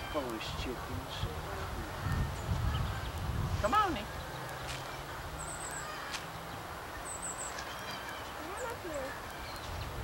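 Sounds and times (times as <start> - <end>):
chickens calling: 0.0 - 10.0.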